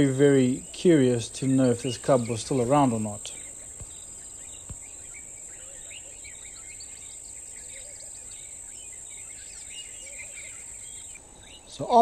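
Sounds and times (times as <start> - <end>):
high-pitched insect trill: 0.0 - 12.0
small birds chirping: 0.0 - 12.0.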